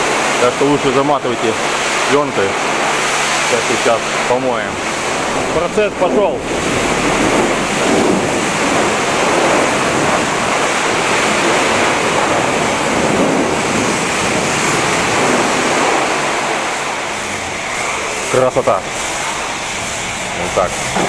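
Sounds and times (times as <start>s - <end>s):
pressure washer spray hissing: 0.0s - 21.0s.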